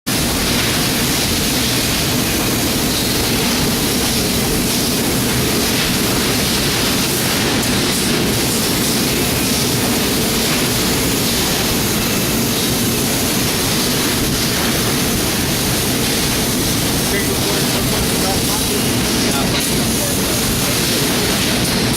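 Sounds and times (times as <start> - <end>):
laser cutter hiss and hum: 0.1 - 21.9.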